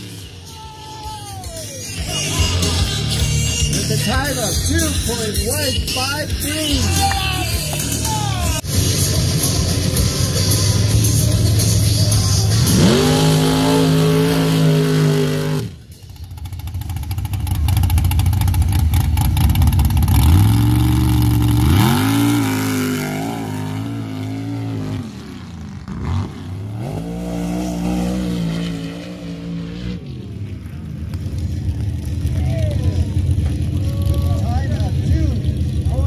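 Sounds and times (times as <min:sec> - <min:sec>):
buggy engine revving: 0:00.0 - 0:36.0.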